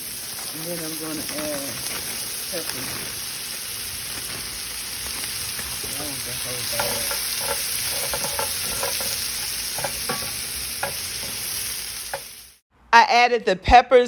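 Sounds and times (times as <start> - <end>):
vegetables sizzling in a skillet: 0.0 - 12.6.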